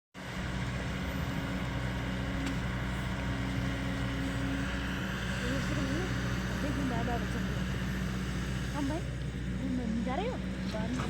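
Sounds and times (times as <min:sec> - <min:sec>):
diesel engine running: 0:00.2 - 0:11.0.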